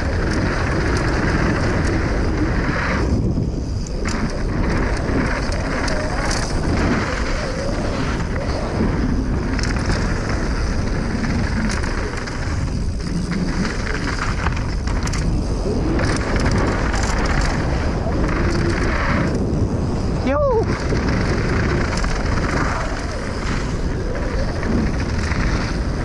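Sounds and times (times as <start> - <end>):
bike clattering over bumps: 0.0 - 19.9, 20.6 - 26.0
tyres rumbling on dirt trail: 0.0 - 26.0
wind buffeting microphone: 0.0 - 26.0.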